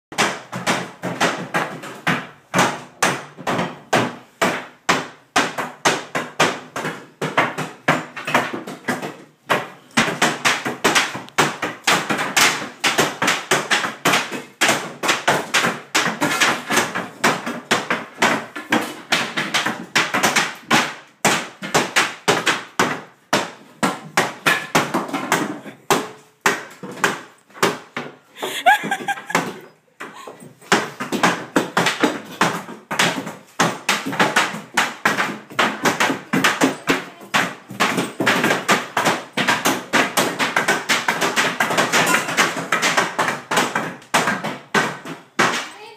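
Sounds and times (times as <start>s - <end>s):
sharp knocks or slaps: 0.1s - 28.2s, 28.8s - 45.8s.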